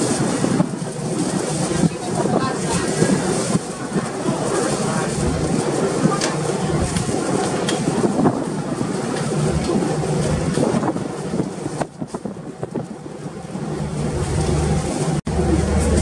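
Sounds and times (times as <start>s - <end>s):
sea noise: 0.0s - 16.0s
ship engines droning: 0.0s - 16.0s
wind buffeting microphone: 0.0s - 16.0s.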